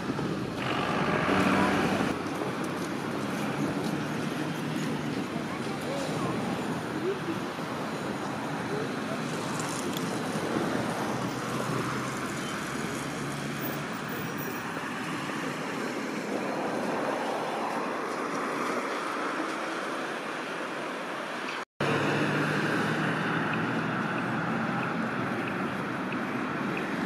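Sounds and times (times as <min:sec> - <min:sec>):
road traffic: 0:00.0 - 0:27.0
tram on tracks: 0:00.0 - 0:27.0.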